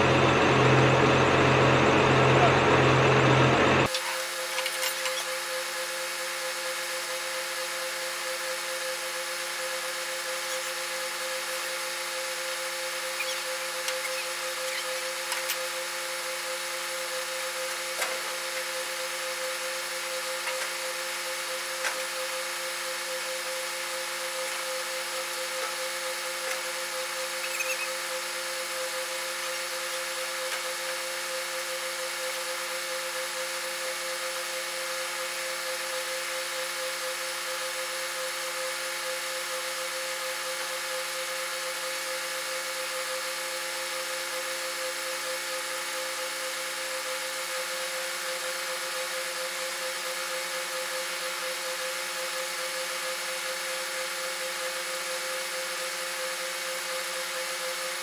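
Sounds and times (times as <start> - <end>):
crane engine and hydraulic whine: 0.0 - 58.0.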